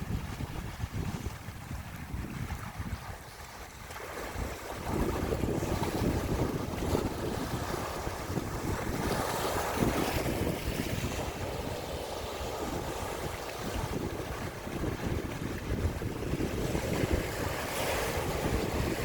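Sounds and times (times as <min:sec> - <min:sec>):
sea waves washing: 0:00.0 - 0:19.0
wind blowing: 0:00.0 - 0:19.0
wind buffeting microphone: 0:00.0 - 0:19.0.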